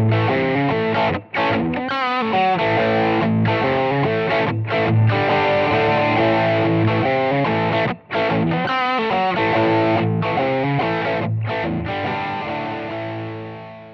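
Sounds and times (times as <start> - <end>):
distorted electric guitar riff: 0.0 - 13.9.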